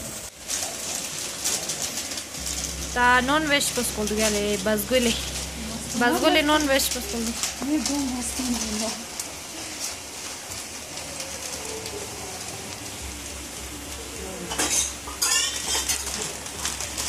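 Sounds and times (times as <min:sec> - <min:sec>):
plastic packets crinkling: 0:00.3 - 0:17.0.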